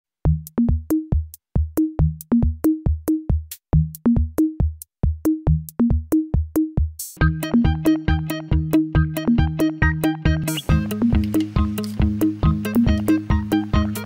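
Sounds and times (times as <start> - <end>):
electronic music with drum-machine beat: 0.3 - 14.0.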